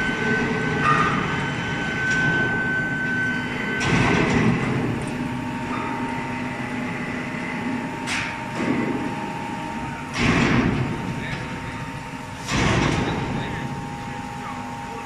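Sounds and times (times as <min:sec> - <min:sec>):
machinery rumble with high hum: 0:00.0 - 0:15.0.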